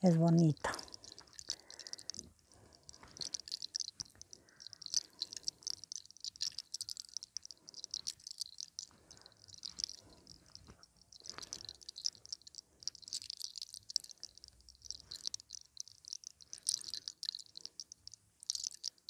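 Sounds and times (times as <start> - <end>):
fingers combing through hair: 0.0 - 19.0.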